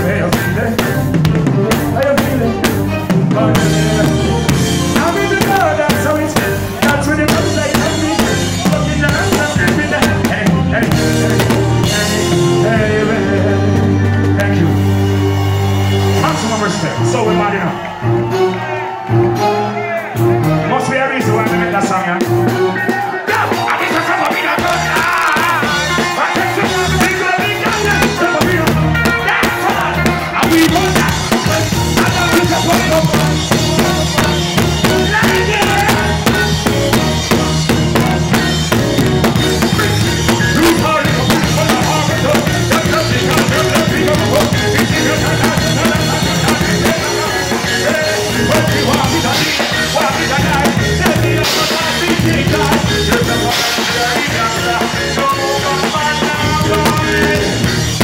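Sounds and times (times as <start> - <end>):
drum kit and cymbals: 0.0 - 17.4, 19.9 - 58.0
person singing: 0.0 - 17.4, 20.5 - 58.0
live reggae band playing: 0.0 - 58.0.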